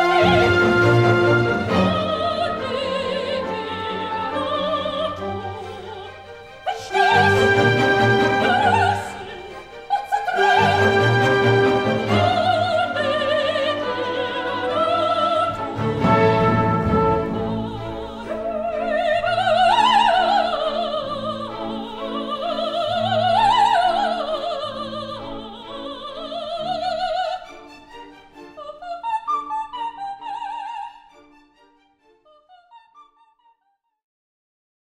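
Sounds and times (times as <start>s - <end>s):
orchestra playing: 0.0s - 28.6s
soprano singing opera: 0.0s - 31.1s, 32.2s - 33.5s.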